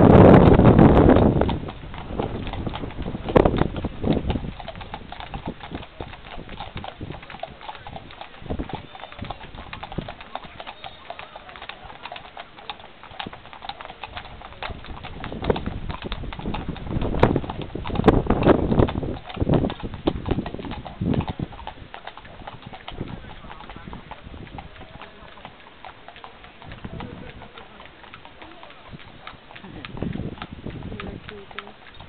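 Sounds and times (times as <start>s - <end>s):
horse hooves clip-clopping: 0.0s - 32.0s.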